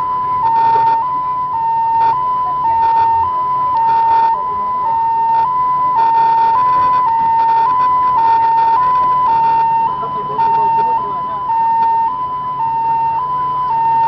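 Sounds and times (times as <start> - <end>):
two-tone emergency siren: 0.0 - 14.0.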